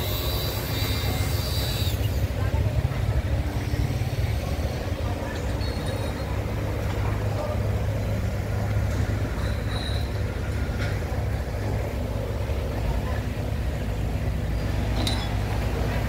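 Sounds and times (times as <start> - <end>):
faint street noise: 0.0 - 16.0
large vehicle engine idling: 0.0 - 16.0.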